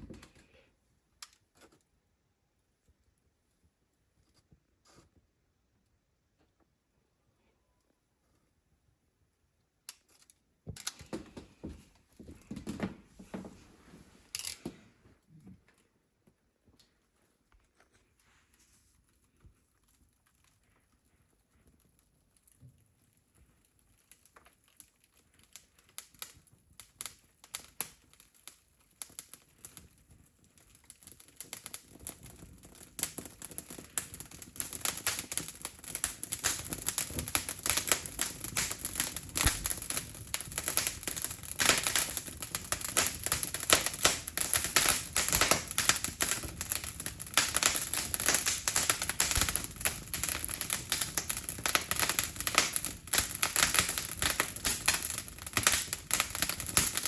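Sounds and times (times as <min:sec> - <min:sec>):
wood fire crackling: 0:00.0 - 0:01.9, 0:09.2 - 0:57.0.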